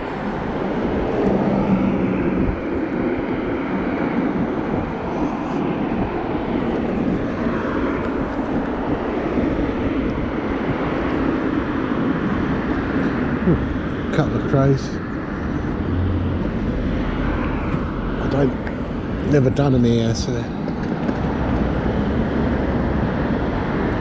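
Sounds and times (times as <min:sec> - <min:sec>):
mobility scooter drone: 0:00.0 - 0:24.0.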